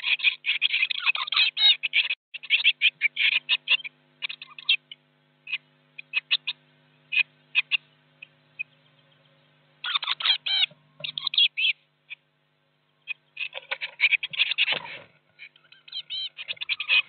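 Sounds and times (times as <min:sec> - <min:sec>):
faint steady hum: 0:00.0 - 0:17.0
nestlings cheeping: 0:00.0 - 0:17.0.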